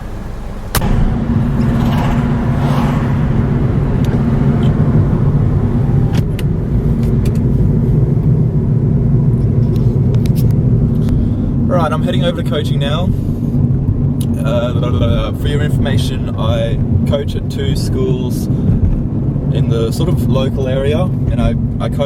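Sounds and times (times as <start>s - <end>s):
car engine and road hum: 0.0s - 22.0s.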